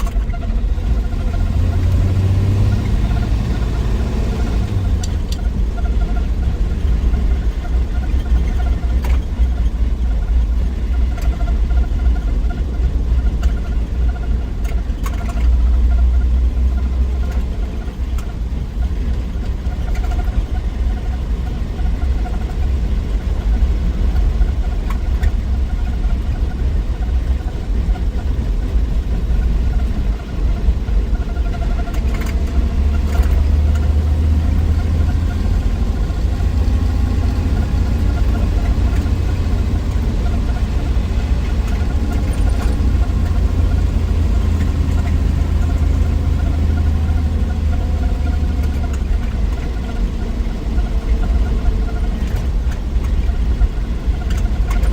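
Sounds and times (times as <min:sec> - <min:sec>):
car engine low rumble: 0:00.0 - 0:54.9
road noise: 0:00.0 - 0:54.9.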